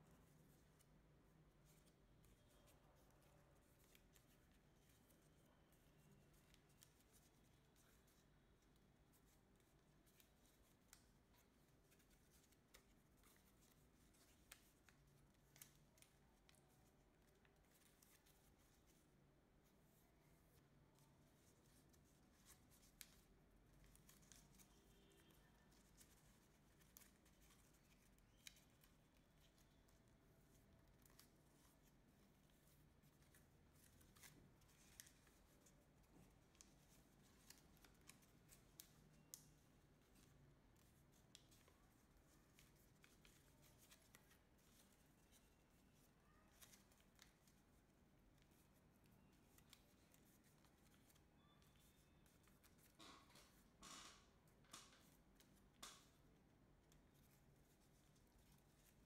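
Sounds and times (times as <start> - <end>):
paper crinkling while folded: 0.0 - 59.0.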